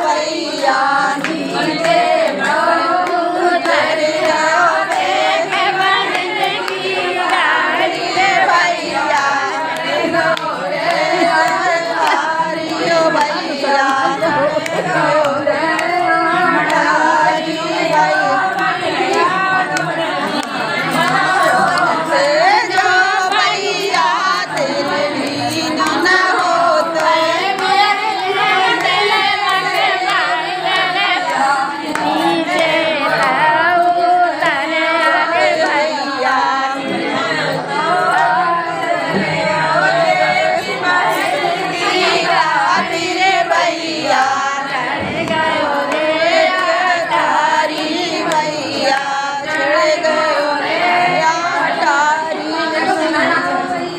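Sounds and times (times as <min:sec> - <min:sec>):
women singing in unison: 0:00.0 - 0:53.9.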